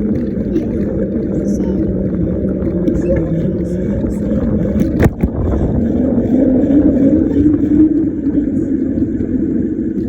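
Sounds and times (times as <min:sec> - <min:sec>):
bicycle tyres droning on road: 0:00.0 - 0:10.0.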